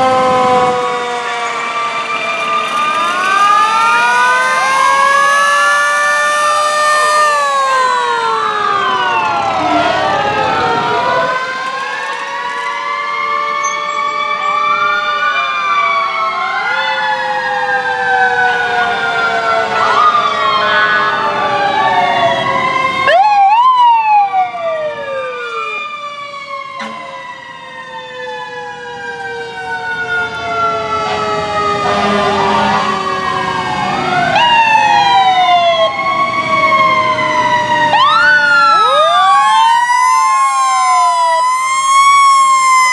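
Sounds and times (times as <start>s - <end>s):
fire truck sirens wailing: 0.0s - 42.9s.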